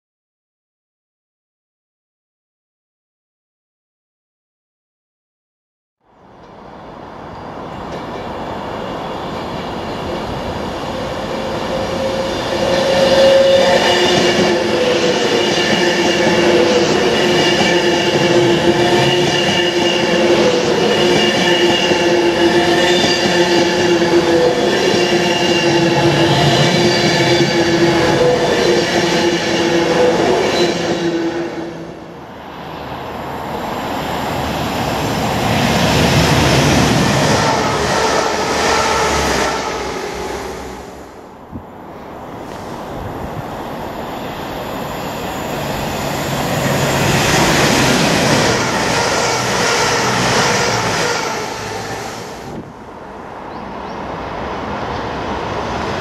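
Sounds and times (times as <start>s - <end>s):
diesel train approaching: 6.1s - 56.0s
electric train passing: 6.1s - 56.0s
train wheels rumbling with whine: 6.4s - 53.2s.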